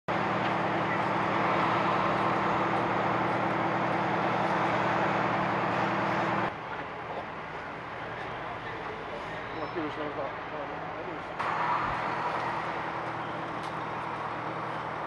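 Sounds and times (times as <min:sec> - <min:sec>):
vehicle engine running: 0:00.1 - 0:09.2, 0:11.3 - 0:15.0
street traffic: 0:00.1 - 0:15.0.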